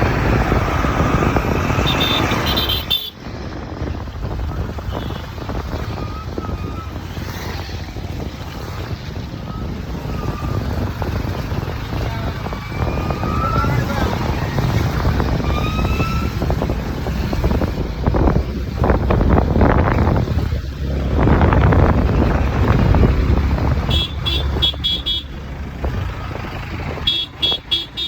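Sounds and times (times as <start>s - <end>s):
road rumble: 0.0s - 28.0s
scooter engine hum: 0.0s - 28.0s
wind buffeting microphone: 0.0s - 28.0s.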